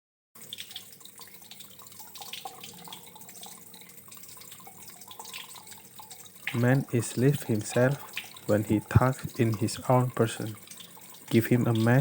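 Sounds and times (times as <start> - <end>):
water trickling and dripping: 0.4 - 12.0.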